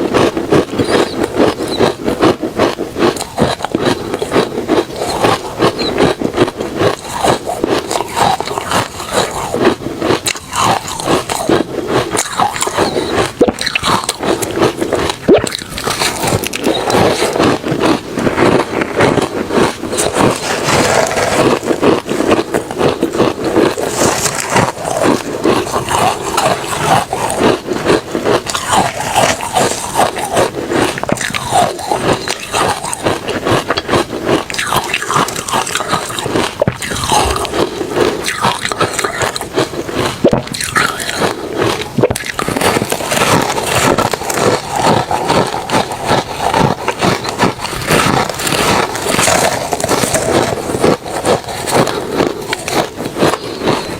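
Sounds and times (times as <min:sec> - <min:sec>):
ice being chewed crunching: 0:00.0 - 0:53.9.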